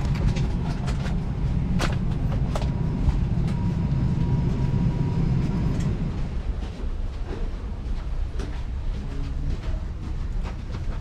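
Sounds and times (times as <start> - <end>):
faint steady whine: 0.0 - 10.0
aircraft cabin rumble: 0.0 - 11.0.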